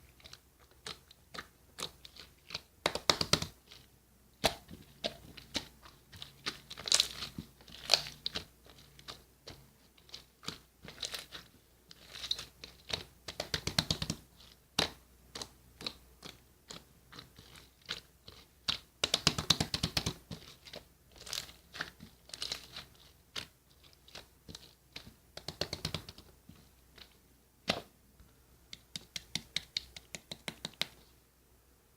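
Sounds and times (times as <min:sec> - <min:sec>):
slime crackling and popping: 0:00.0 - 0:26.4.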